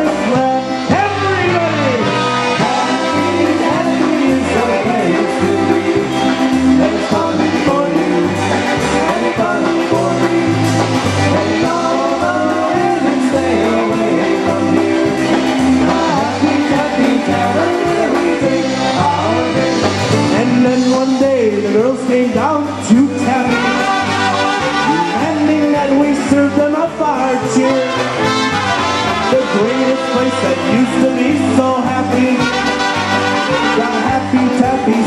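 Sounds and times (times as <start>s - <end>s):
oom-pah bass: 0.0s - 35.0s
polka band playing: 0.0s - 35.0s.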